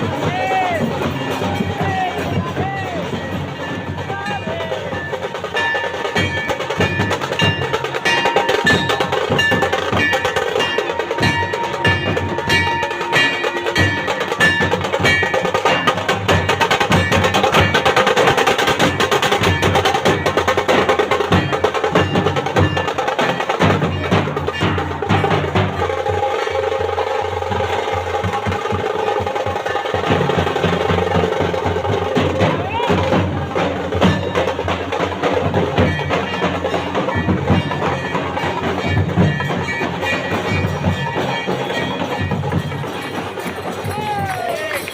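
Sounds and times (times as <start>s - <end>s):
drums beating fast rhythm: 0.0s - 44.9s.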